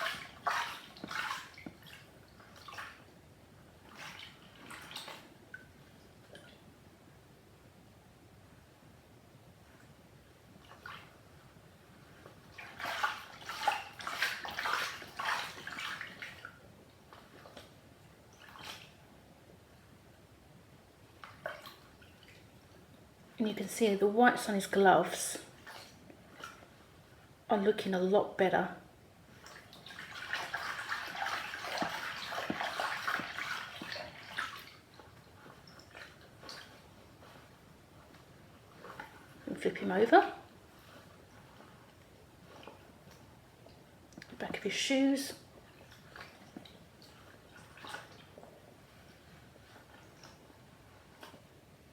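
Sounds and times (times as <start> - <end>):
water sloshing and splashing: 0.0 - 6.7, 9.7 - 19.6, 21.0 - 51.9.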